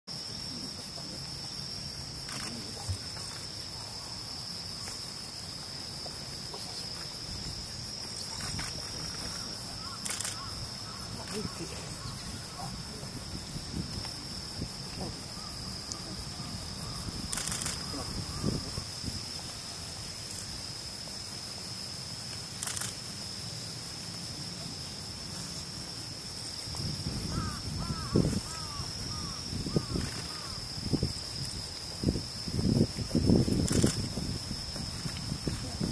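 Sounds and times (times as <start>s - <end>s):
high-pitched insect drone: 0.1s - 23.7s, 24.5s - 35.9s.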